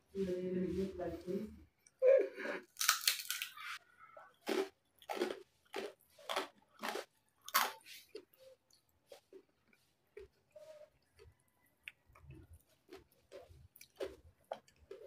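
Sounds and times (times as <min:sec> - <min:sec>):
person chewing crunchy food: 0:02.6 - 0:15.0.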